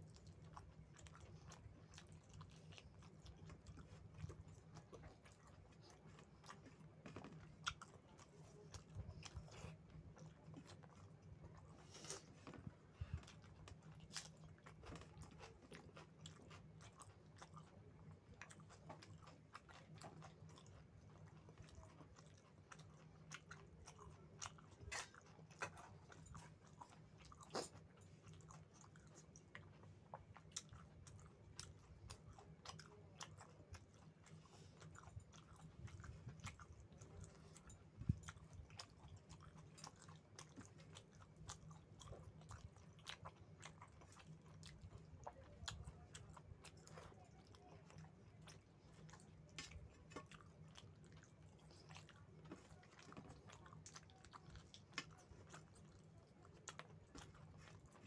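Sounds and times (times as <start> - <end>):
faint low hum: 0.0 - 58.0
person chewing: 0.0 - 58.0.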